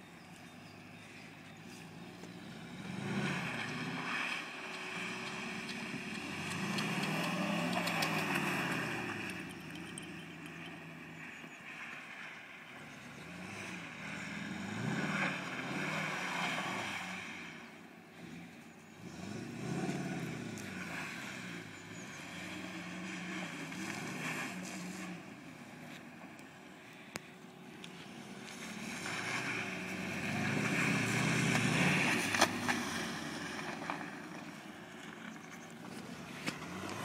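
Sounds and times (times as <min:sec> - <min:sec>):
car engine revving: 0:02.1 - 0:11.4, 0:12.7 - 0:25.9, 0:27.6 - 0:37.0.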